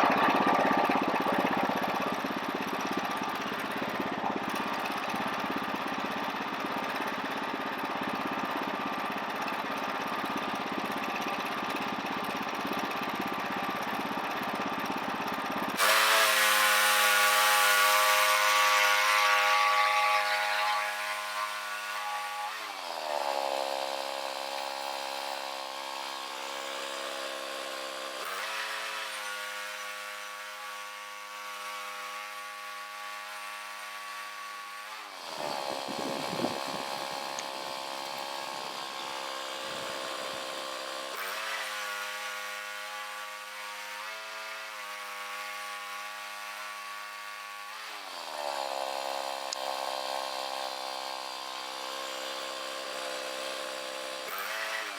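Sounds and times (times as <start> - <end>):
chainsaw cutting log: 0.0 - 54.9.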